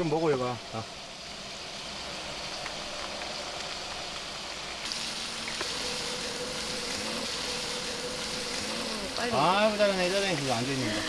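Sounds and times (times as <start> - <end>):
faint steady hum: 0.0 - 11.0
stream rushing: 0.0 - 11.0.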